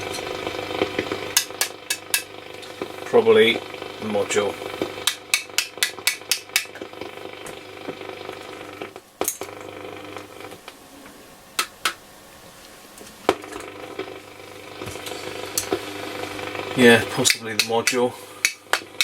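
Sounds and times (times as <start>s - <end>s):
radio static hiss with whines: 0.0s - 5.1s, 6.7s - 19.0s.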